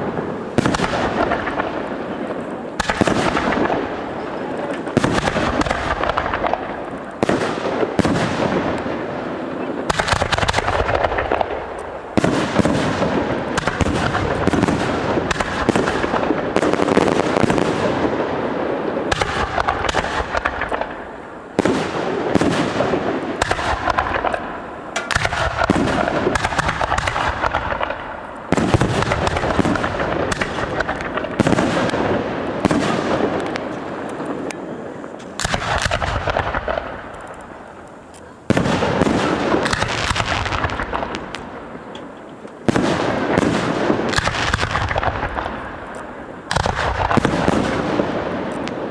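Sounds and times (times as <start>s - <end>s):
fireworks bangs and crackle: 0.0s - 48.9s.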